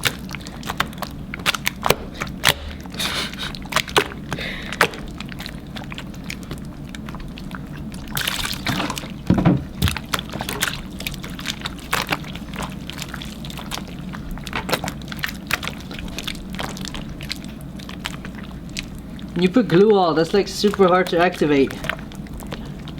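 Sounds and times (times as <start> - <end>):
slime squelching: 0.0 - 22.9.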